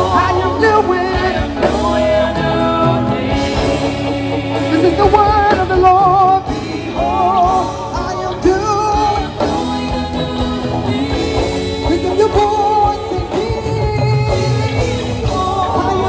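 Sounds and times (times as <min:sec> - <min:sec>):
band accompaniment: 0:00.0 - 0:16.0.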